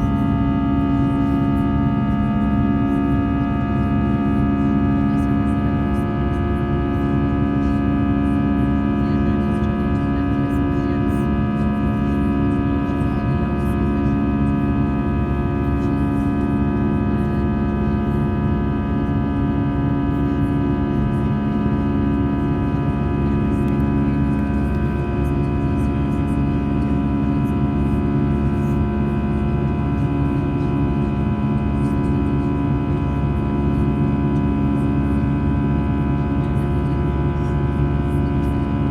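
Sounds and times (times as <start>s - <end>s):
jet engine cabin drone: 0.0s - 38.9s
steady humming tones: 0.0s - 38.9s.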